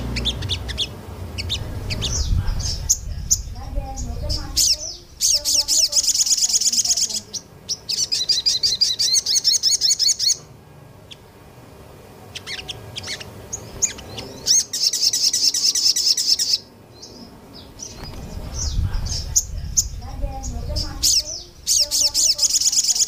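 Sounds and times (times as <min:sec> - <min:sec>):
bird chirps: 0:00.0 - 0:11.3, 0:12.2 - 0:23.0
songbird rapid high song: 0:00.0 - 0:11.4, 0:12.2 - 0:23.0.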